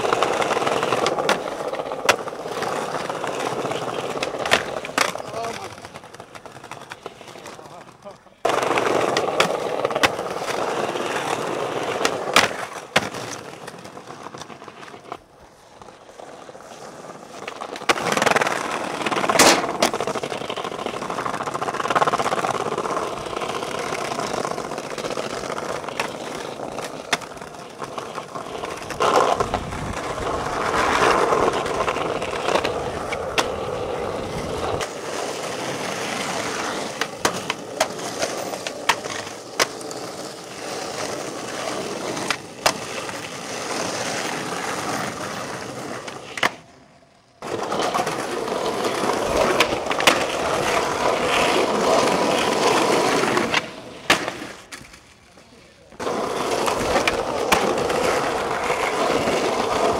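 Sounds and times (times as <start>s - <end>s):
skateboard clacks: 0.0s - 59.9s
skateboard wheels rolling on paving: 0.0s - 59.9s.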